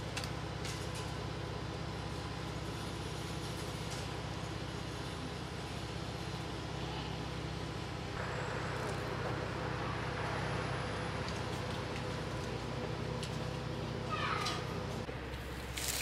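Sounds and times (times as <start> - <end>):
low engine rumble: 0.0 - 16.0
road noise: 0.0 - 16.0.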